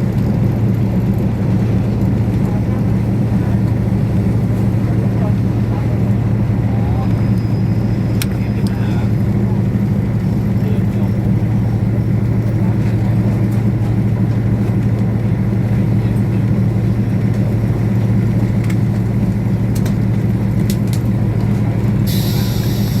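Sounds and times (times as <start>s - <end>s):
diesel train engine rumble: 0.0s - 23.0s.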